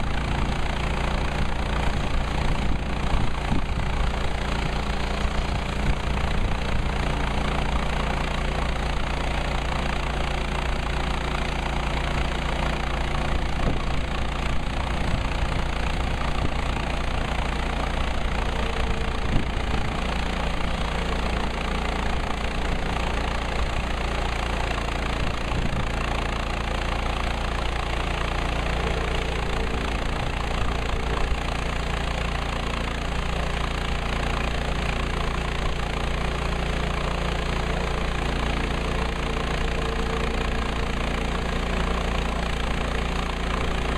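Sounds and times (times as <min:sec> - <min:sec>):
gas engine running: 0:00.0 - 0:43.9.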